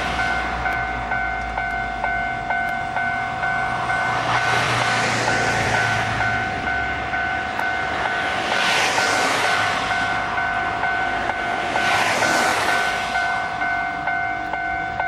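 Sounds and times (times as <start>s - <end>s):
ringing signal: 0.0s - 8.3s, 9.0s - 15.0s
electric train running: 0.0s - 15.0s.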